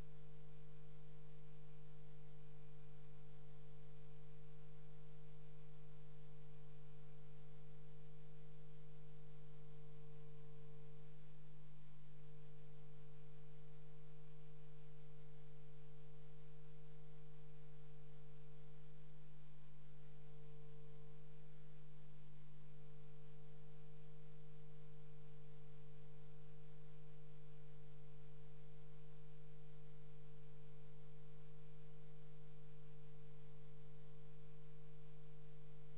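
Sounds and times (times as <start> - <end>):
steady electrical hum: 0.0 - 35.9.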